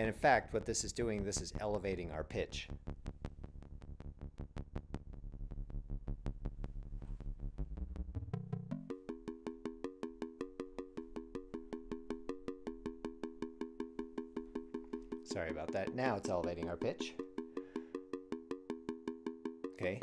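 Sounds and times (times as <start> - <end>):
synthesizer buzzing tone: 2.7 - 20.0.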